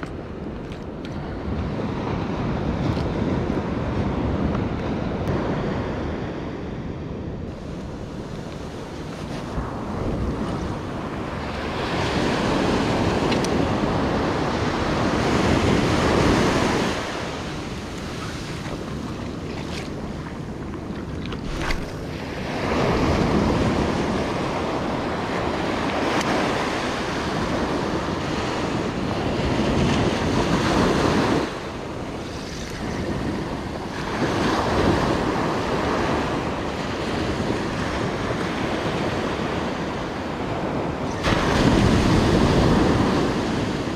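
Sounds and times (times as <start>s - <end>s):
ocean surf breaking on beach: 0.0s - 43.9s.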